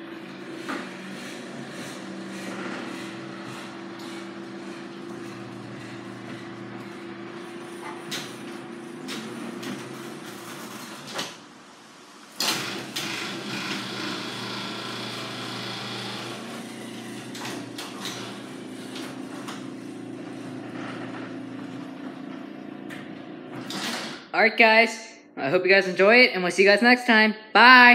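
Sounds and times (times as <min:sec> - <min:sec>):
door rolling along tracks: 0:00.0 - 0:24.3
garage door opener motor hum: 0:00.0 - 0:24.3.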